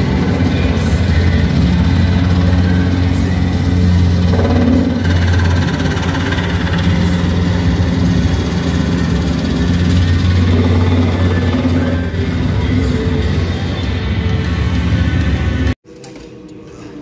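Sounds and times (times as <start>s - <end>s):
helicopter engine and rotors: 0.0s - 15.8s.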